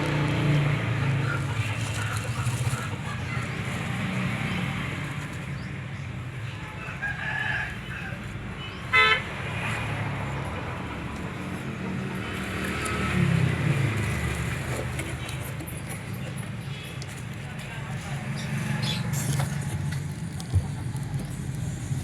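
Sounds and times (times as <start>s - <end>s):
low rumble of road traffic: 0.0s - 22.0s.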